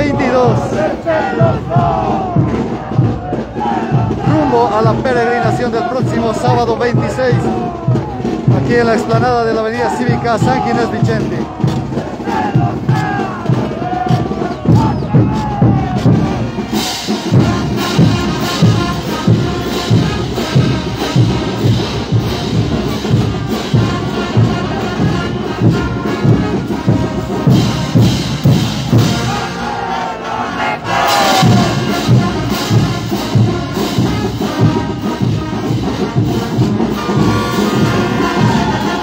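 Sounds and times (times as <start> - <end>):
steady bass drum beat: 0.0 - 29.6, 30.8 - 39.0
brass band playing: 0.0 - 39.0
crowd shouting and cheering: 0.0 - 39.0.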